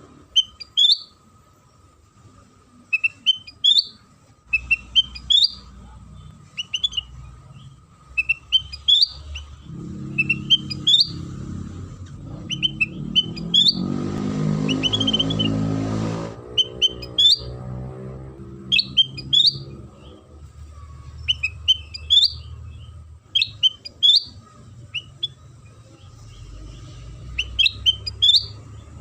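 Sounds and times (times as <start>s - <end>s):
bird chirping song: 0.0s - 29.0s.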